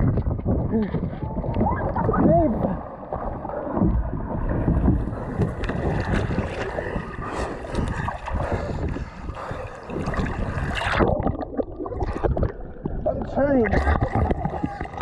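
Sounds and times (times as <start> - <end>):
water splashing against kayak: 0.0 - 15.0.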